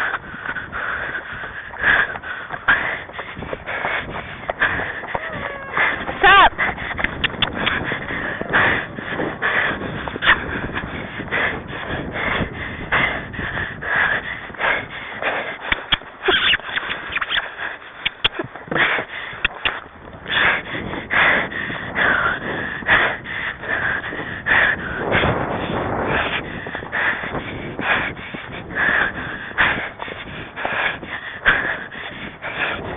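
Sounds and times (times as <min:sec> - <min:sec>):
heavy breathing: 0:00.0 - 0:32.9.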